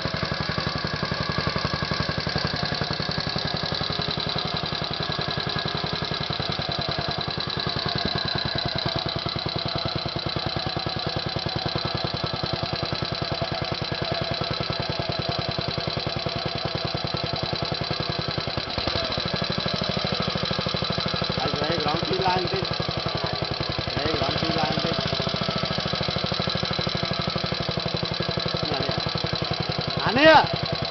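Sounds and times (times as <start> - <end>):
small engine idling: 0.0 - 30.9.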